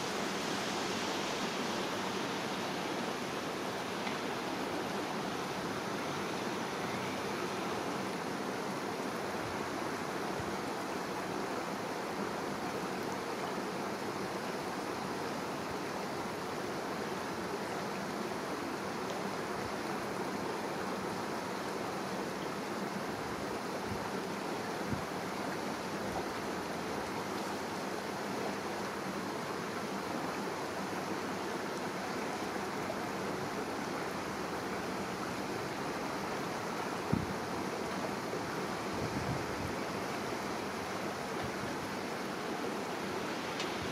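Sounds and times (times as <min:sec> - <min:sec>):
shallow river flowing: 0:00.0 - 0:43.9.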